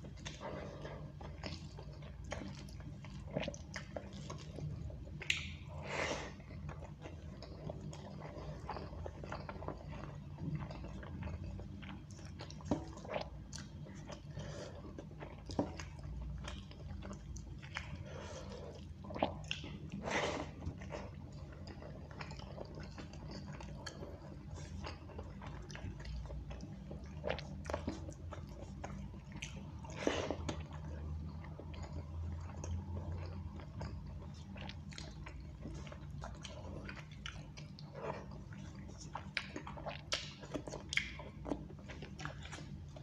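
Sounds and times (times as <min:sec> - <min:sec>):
man chewing with wet smacks: 0:00.0 - 0:43.0.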